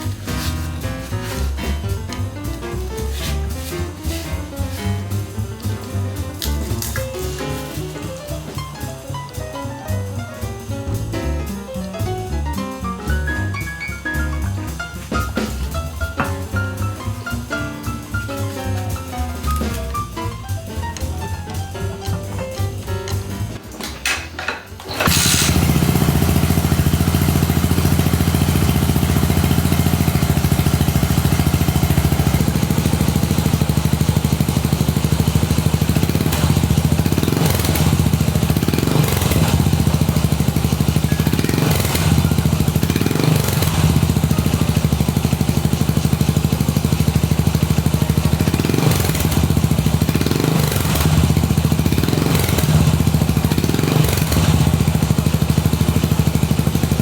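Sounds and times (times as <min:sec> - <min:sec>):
motorcycle engine idling: 0:00.0 - 0:23.6, 0:24.8 - 0:57.0.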